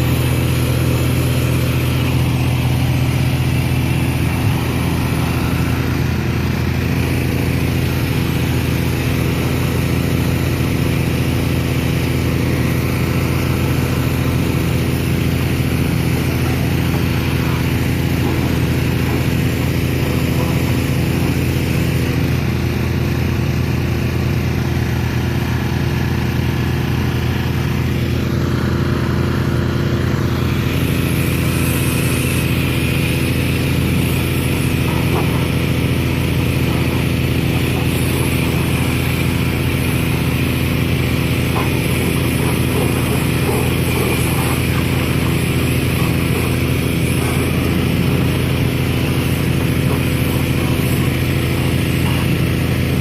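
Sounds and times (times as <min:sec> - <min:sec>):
engine running steadily: 0:00.0 - 0:53.0.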